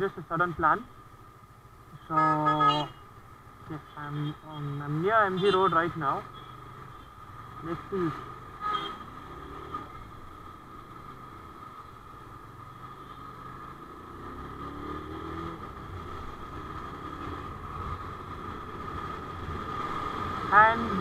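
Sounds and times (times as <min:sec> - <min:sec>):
motorcycle engine idling and accelerating: 0:00.0 - 0:21.0.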